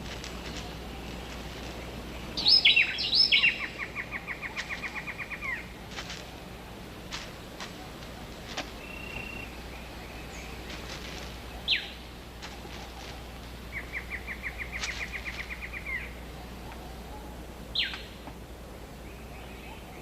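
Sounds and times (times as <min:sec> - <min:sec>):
rapid bird chirps: 0:00.3 - 0:06.7, 0:07.7 - 0:18.2.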